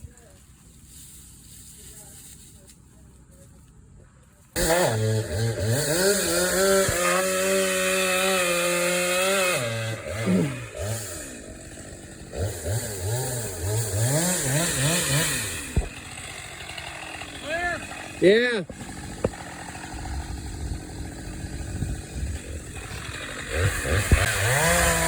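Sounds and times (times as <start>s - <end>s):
chainsaw revving: 4.6s - 25.0s.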